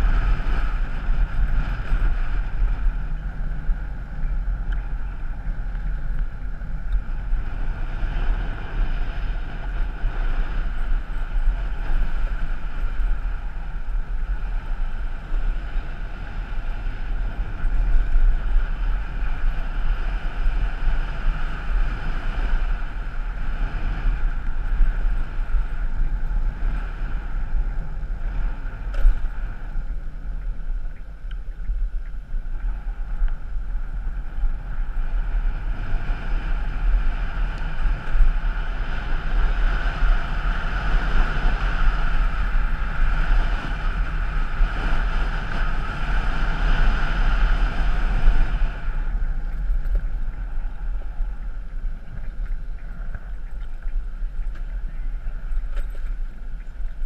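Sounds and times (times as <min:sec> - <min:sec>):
vehicle running: 0:00.0 - 0:57.0
wind buffeting microphone: 0:00.0 - 0:57.0.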